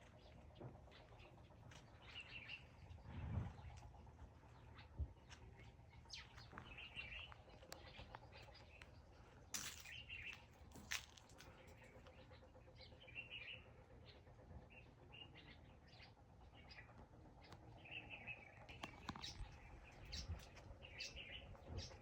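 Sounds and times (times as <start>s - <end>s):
low steady rumble: 0.0s - 22.0s
small birds chirping: 0.0s - 22.0s.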